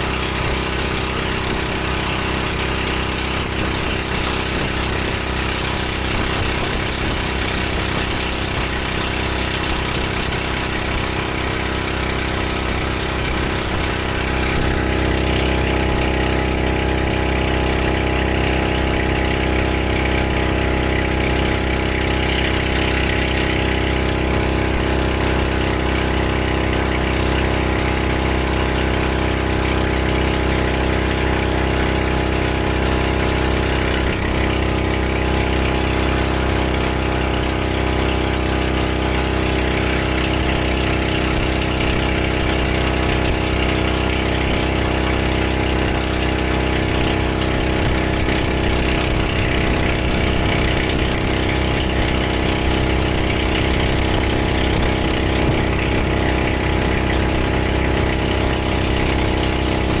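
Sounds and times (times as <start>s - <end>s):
motorboat engine running steadily: 0.0s - 60.0s
wind: 0.0s - 60.0s.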